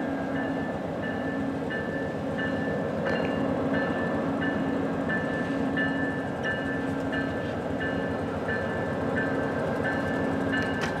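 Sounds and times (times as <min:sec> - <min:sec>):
diesel train rumbling past: 0:00.0 - 0:11.0
level-crossing warning bell: 0:00.0 - 0:11.0.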